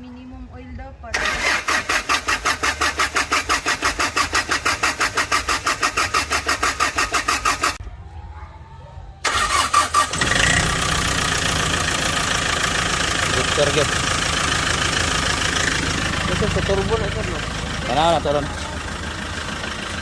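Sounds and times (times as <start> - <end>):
diesel engine running: 0.6 - 7.8, 9.2 - 20.0
diesel engine cranking: 1.1 - 7.8, 9.2 - 20.0.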